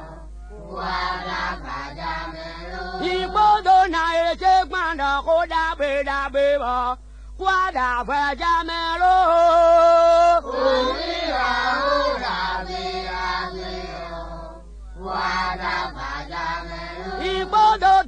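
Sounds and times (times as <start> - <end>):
group of voices singing: 0.0 - 5.2, 8.3 - 18.0
single voice singing: 0.0 - 18.0.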